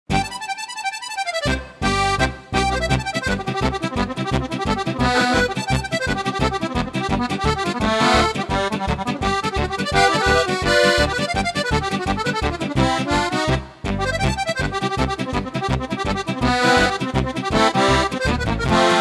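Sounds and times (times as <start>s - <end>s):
button accordion playing lively tune: 0.1s - 19.0s
steady bass beat: 1.8s - 19.0s.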